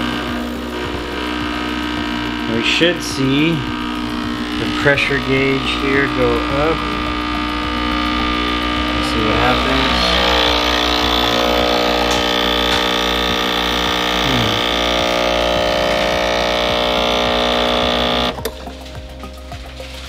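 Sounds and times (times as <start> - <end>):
espresso machine pump buzzing: 0.0 - 20.0.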